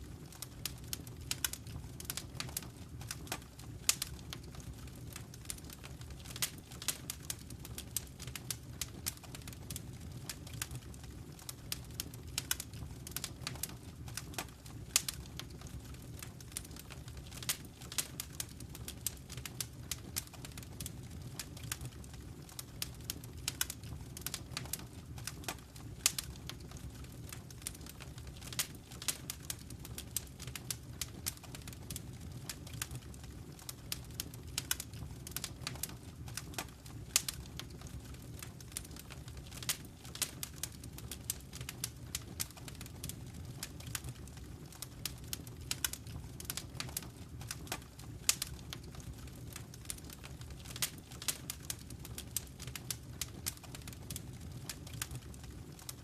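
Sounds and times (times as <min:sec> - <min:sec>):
fire popping and snapping: 0:00.0 - 0:56.0
low rumble of fire: 0:00.0 - 0:56.0.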